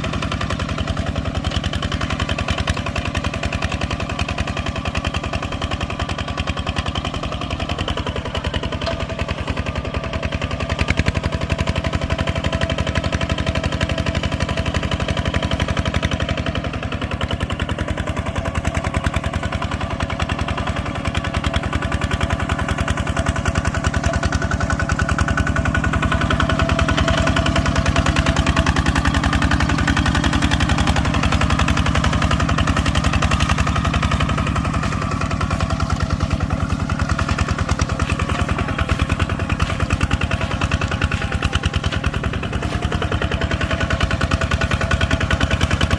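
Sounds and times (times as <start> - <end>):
farm machine engine running: 0.0 - 45.9.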